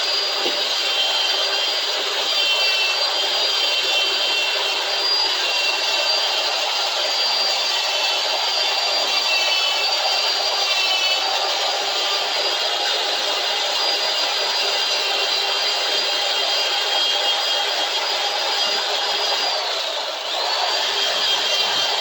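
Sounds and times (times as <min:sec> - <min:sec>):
power tool whining: 0:00.0 - 0:22.0.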